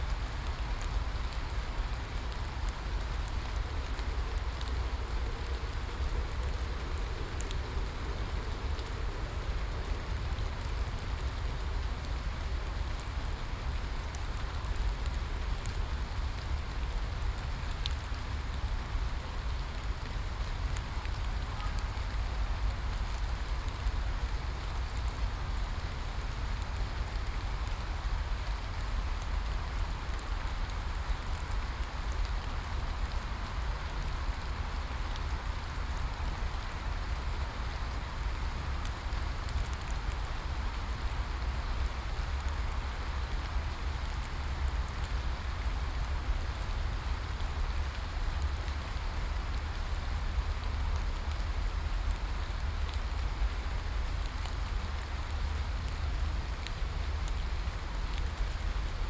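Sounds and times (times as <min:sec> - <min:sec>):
constant low rumble: 0:00.0 - 0:59.0
rain pattering on a surface: 0:00.0 - 0:59.0.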